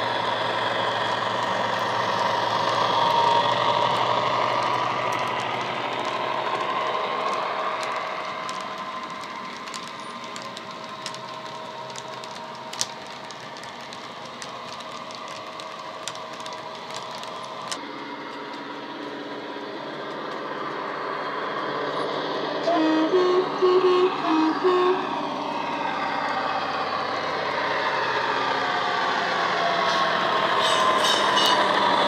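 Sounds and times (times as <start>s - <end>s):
model wagon wheels clicking on rails: 0.0s - 21.4s, 25.6s - 32.0s
diesel engine sound from speaker: 0.0s - 32.0s.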